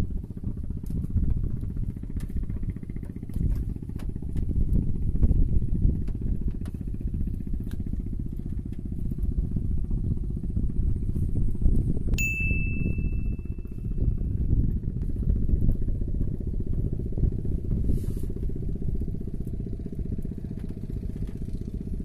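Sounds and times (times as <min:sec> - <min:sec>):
small engine droning: 0:00.0 - 0:22.0.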